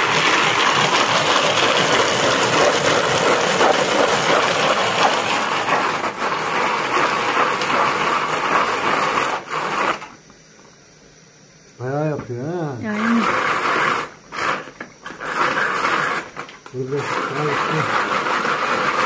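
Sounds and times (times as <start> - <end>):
food chopper blades rattling: 0.0 - 10.2, 12.9 - 19.0.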